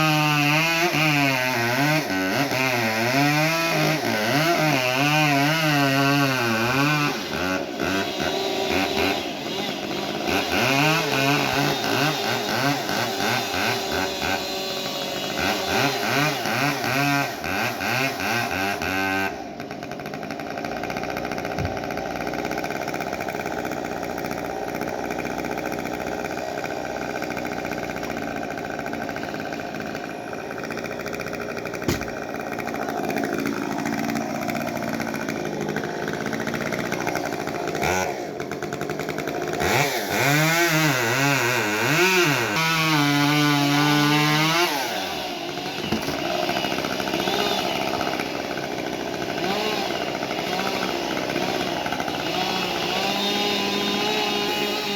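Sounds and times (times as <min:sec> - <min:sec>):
chainsaw engine revving: 0:00.0 - 0:54.9.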